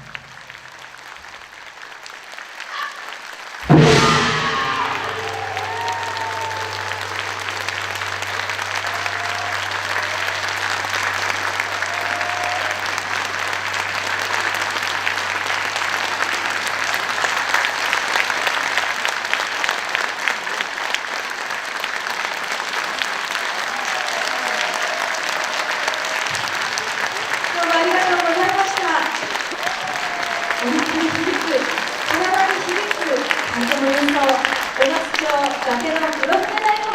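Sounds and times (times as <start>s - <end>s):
audience applauding: 0.0s - 36.9s.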